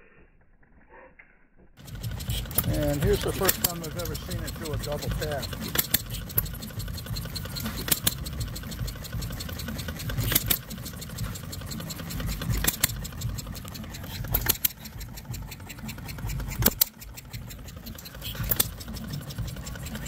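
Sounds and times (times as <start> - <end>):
gas engine firing with sharp pops: 1.8 - 20.0.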